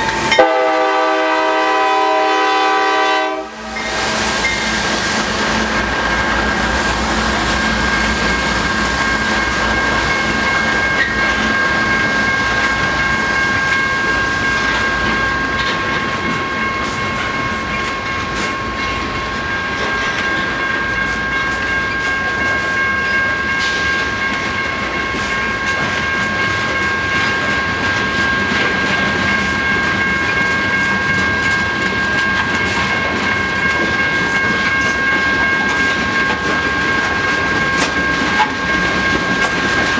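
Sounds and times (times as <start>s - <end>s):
freight train rumbling: 0.0s - 39.9s
train wheels clattering on rail joints: 0.0s - 39.9s
high-pitched ringing tones: 3.7s - 39.9s.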